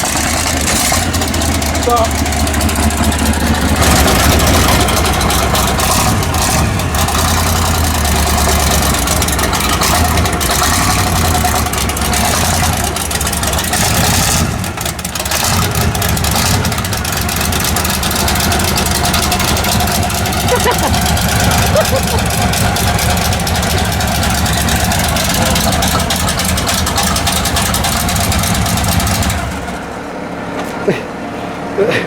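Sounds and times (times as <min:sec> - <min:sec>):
vehicle engine idling: 0:00.0 - 0:32.0.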